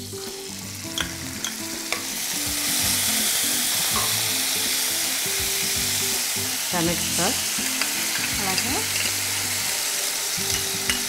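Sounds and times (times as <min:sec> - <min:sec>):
sauce sizzling in hot oil: 0:00.0 - 0:11.0.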